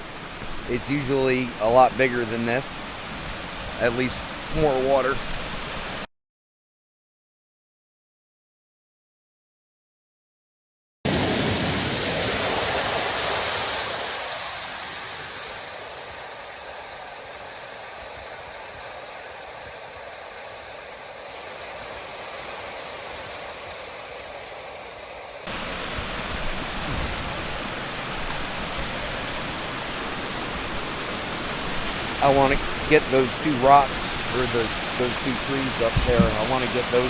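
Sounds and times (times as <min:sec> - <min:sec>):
waterfall rushing: 0:00.0 - 0:06.1, 0:11.1 - 0:37.0.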